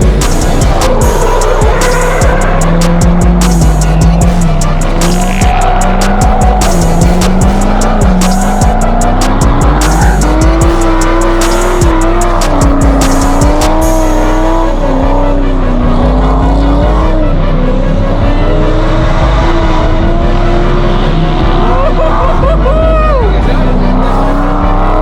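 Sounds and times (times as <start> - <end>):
car engine revving: 0.0 - 25.0
music: 0.0 - 25.0.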